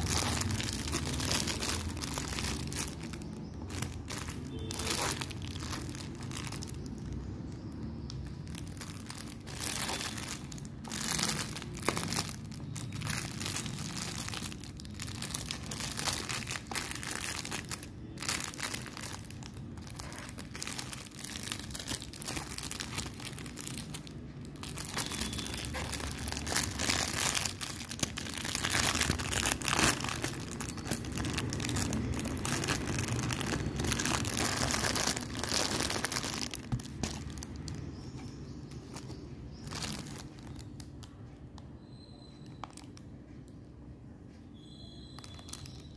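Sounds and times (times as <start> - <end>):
plastic packaging crinkling: 0.0 - 41.2, 45.2 - 45.9.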